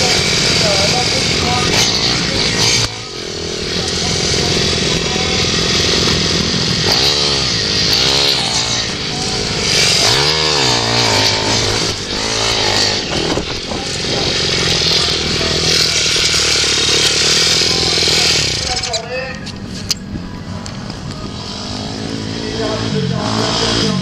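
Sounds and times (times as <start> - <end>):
motorcycle engines revving and passing: 0.0 - 24.0.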